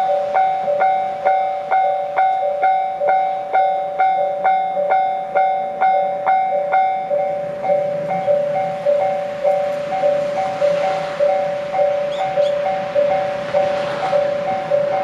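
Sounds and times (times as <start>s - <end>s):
level crossing alarm ringing: 0.0s - 15.0s.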